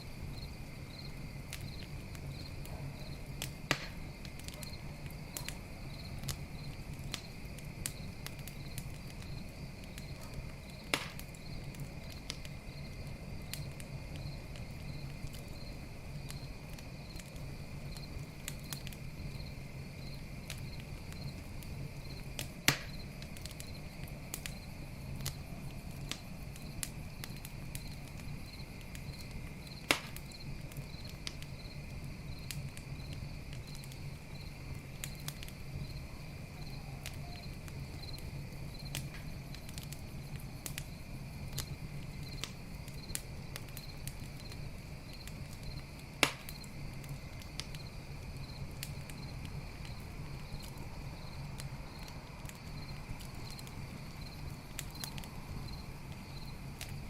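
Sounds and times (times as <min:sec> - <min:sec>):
campfire crackling: 0:00.0 - 0:57.0
night insects chirping: 0:00.0 - 0:57.0
sharp fire pops: 0:00.7 - 0:19.4, 0:20.0 - 0:36.0, 0:36.6 - 0:57.0.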